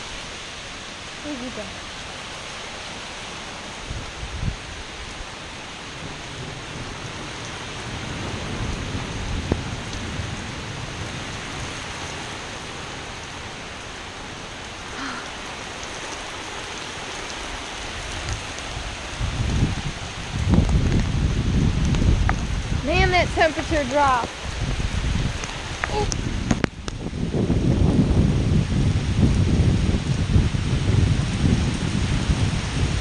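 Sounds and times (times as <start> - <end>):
heavy rain pouring: 0.0 - 33.0
thunder rumble: 5.6 - 13.9, 14.5 - 33.0.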